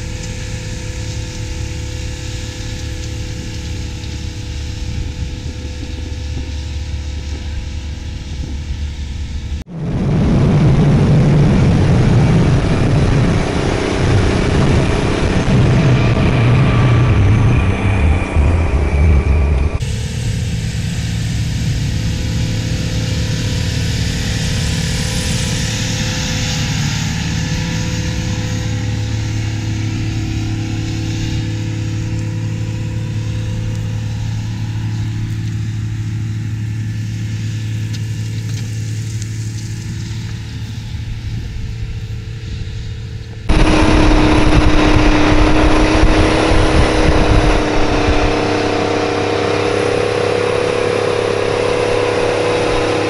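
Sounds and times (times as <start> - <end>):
drone propellers humming: 0.0 - 53.0
tractor diesel engine under load: 0.0 - 53.0.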